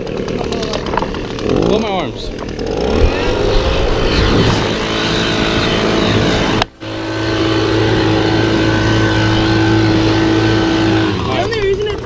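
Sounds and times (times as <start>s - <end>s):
leaf blower engine whine: 0.0s - 12.0s.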